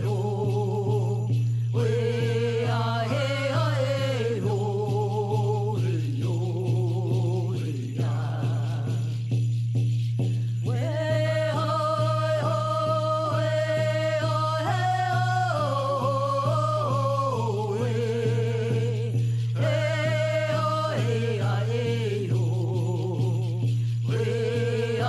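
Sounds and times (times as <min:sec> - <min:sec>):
shaken rattle beat: 0:00.0 - 0:25.0.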